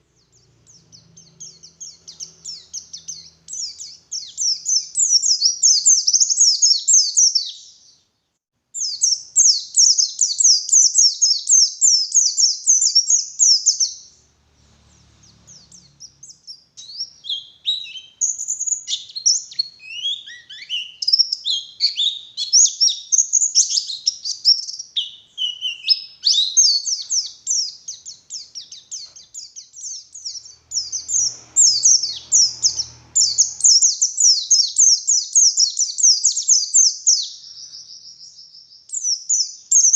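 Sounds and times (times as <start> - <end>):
bird singing chattering song: 0.0 - 8.1, 8.8 - 39.9.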